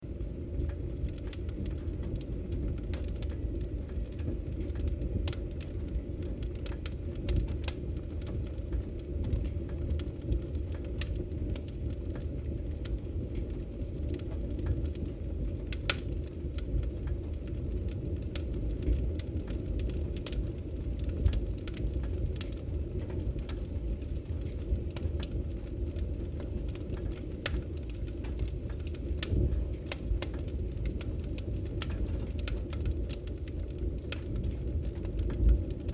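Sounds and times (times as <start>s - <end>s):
fire crackling and popping: 0.0s - 35.9s
fire flames rumbling: 0.0s - 35.9s.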